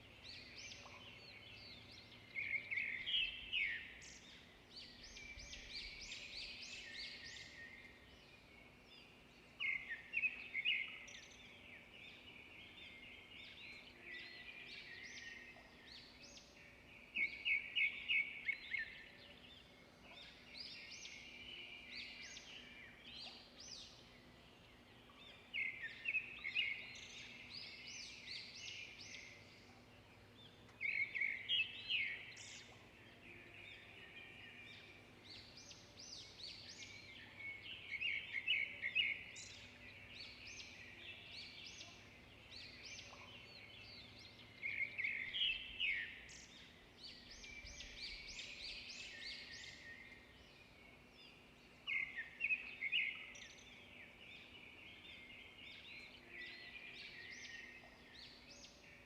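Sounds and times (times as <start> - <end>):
quiet bird chirping: 0.0 - 59.0.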